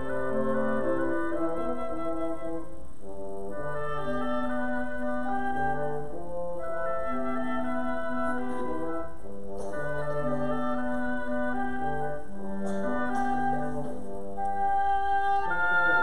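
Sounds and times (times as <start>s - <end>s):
flute: 0.0s - 16.0s
french horn: 0.0s - 16.0s.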